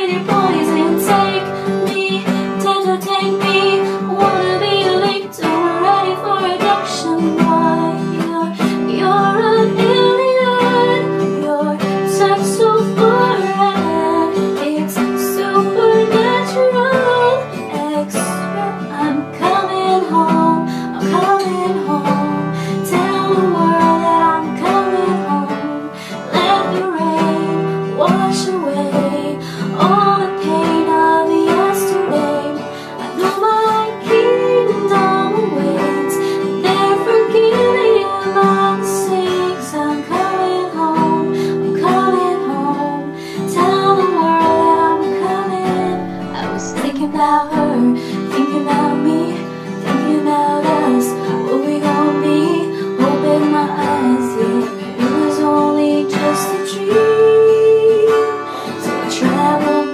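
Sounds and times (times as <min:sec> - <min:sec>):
acoustic guitar strumming: 0:00.0 - 0:59.9
woman singing: 0:00.0 - 0:59.9.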